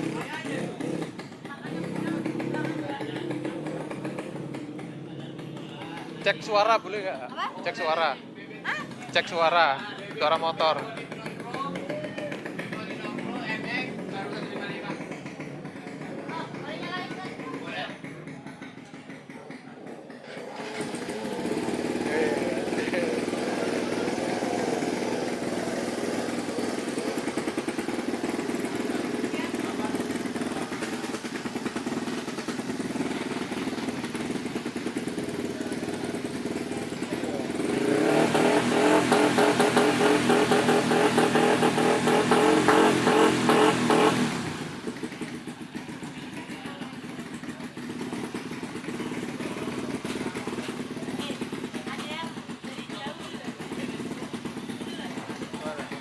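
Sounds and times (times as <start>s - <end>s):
motorbike engine running: 0.0s - 56.0s.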